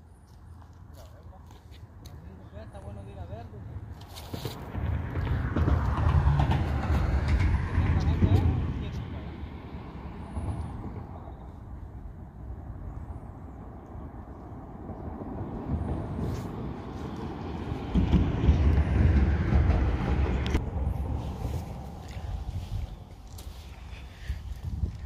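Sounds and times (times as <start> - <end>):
highway traffic passing: 0.0 - 25.0.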